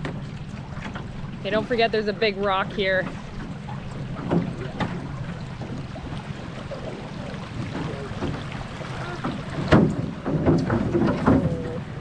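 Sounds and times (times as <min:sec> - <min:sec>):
outboard motor running: 0:00.0 - 0:12.0
water noise: 0:00.0 - 0:12.0.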